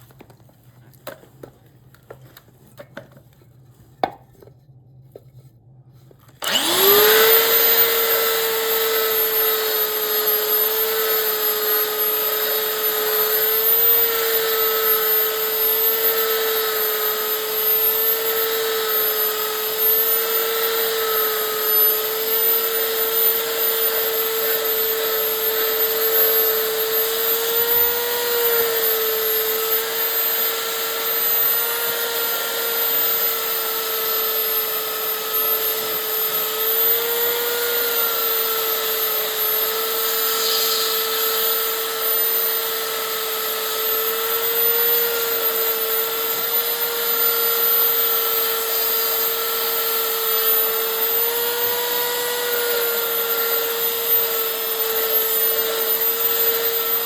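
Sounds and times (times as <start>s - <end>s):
power tool whining on wood: 6.2s - 57.0s.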